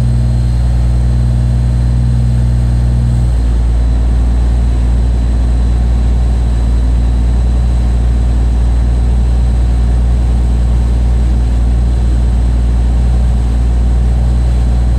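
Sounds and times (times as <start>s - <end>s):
diesel truck engine idling: 0.0s - 14.9s.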